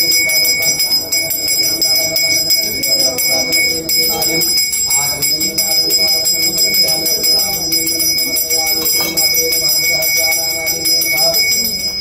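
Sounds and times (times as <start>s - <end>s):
bell ringing rapidly: 0.0s - 12.0s
voice chanting: 0.0s - 12.0s.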